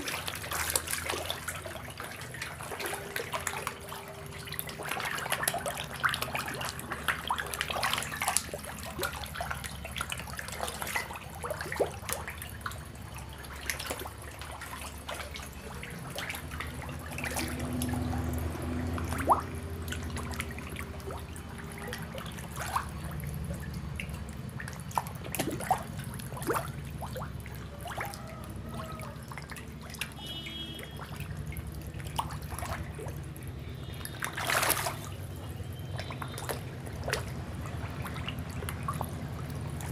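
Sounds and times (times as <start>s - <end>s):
fish splashing at water surface: 0.0s - 39.9s
low steady hum: 0.0s - 39.9s.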